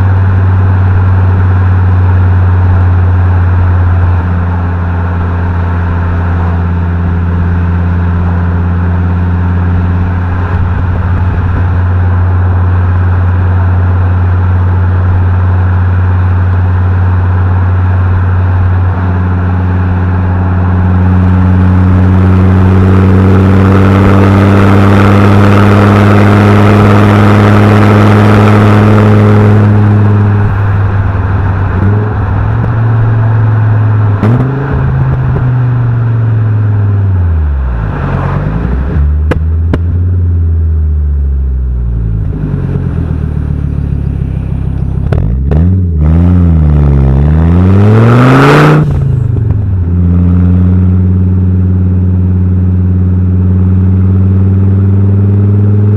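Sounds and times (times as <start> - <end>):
car engine droning and revving: 0.0 - 55.9.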